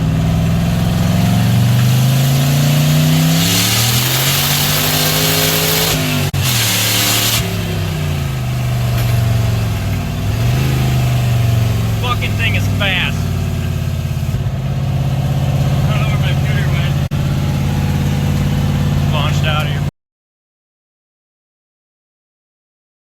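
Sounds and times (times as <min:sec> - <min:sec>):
turbocharged car engine accelerating: 0:00.0 - 0:19.9.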